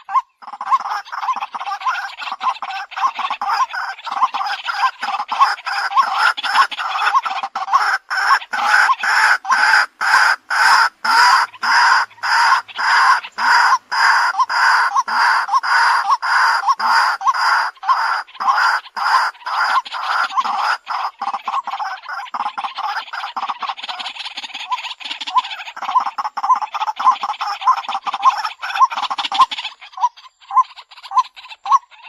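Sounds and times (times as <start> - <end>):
waterhen calling kwak notes: 0.0 - 32.0.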